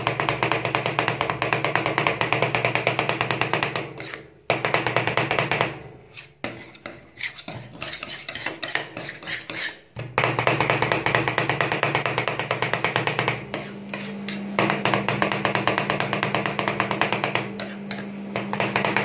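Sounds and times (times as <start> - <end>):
metal spatulas chopping on steel: 0.0 - 19.0.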